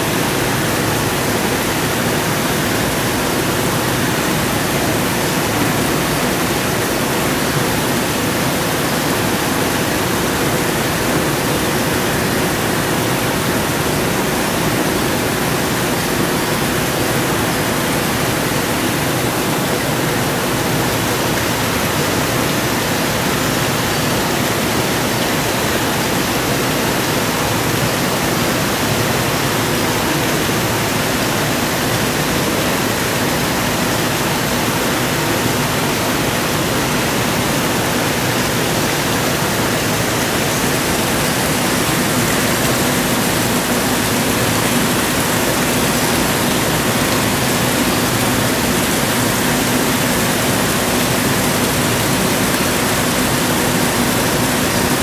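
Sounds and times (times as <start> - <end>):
steady broadband rushing noise: 0.0 - 55.0.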